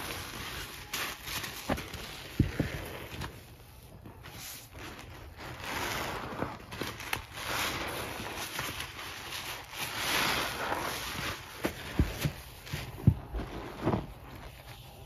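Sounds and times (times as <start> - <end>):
sponges squelching in foam: 0.0 - 15.0.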